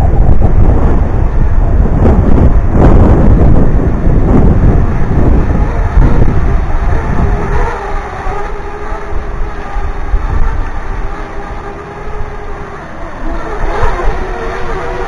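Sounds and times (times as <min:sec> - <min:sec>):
drone propellers humming: 0:00.0 - 0:15.0
wind buffeting microphone: 0:00.0 - 0:15.0.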